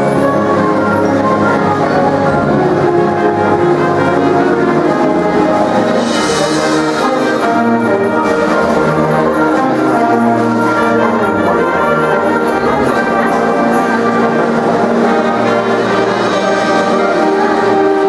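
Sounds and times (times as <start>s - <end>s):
symphonic band playing: 0.0s - 18.0s.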